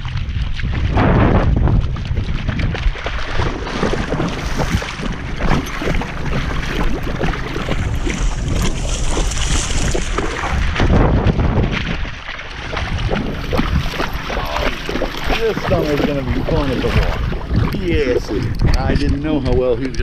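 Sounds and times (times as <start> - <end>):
dog splashing in water: 0.0 - 18.6.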